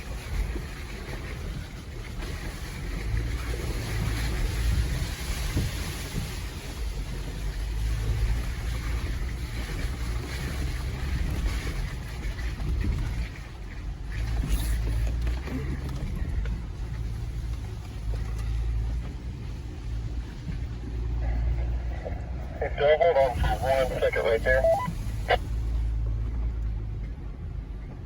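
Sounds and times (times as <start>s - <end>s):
engine running with low rumble: 0.0s - 28.0s.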